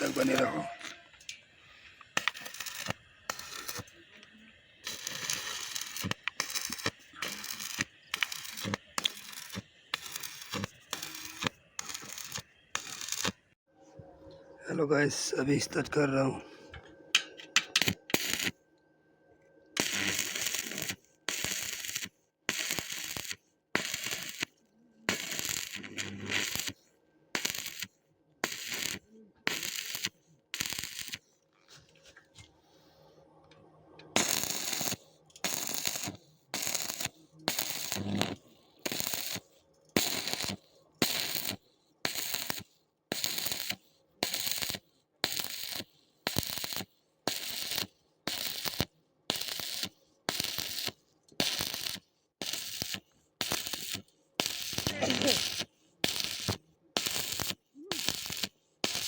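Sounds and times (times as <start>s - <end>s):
arc welding crackling: 0.0s - 13.5s, 17.2s - 18.6s, 19.8s - 26.8s, 27.4s - 31.2s, 34.2s - 59.0s.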